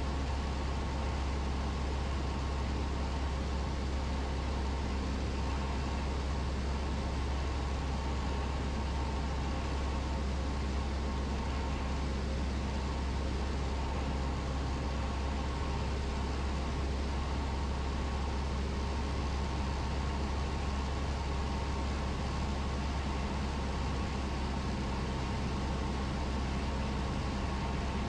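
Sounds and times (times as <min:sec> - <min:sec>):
airplane engine drone: 0:00.0 - 0:28.0.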